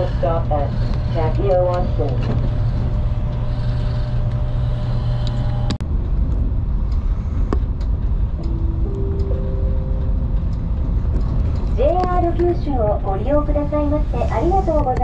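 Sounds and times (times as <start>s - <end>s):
electric train running rumble: 0.0s - 15.0s.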